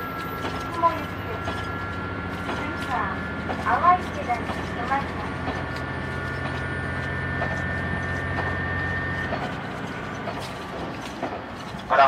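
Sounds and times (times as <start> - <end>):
diesel railcar engine running: 0.0 - 12.0.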